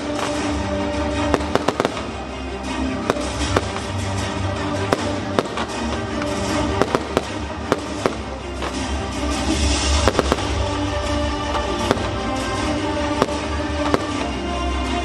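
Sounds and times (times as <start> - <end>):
fireworks cracking and popping: 0.0 - 2.2, 3.0 - 10.8, 11.5 - 14.4
background music: 0.0 - 15.0.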